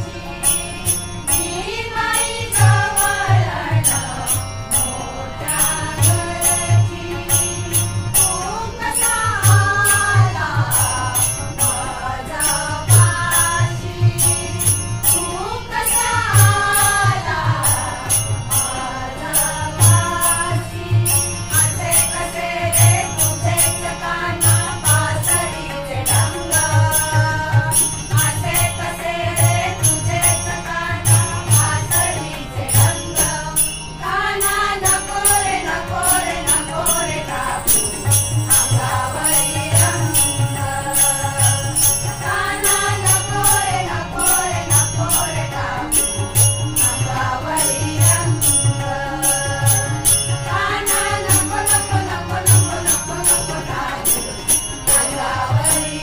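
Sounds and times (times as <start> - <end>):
group singing devotional song: 0.0 - 56.0
hand cymbals: 0.0 - 56.0
harmonium: 0.0 - 56.0
tabla strokes: 0.0 - 56.0.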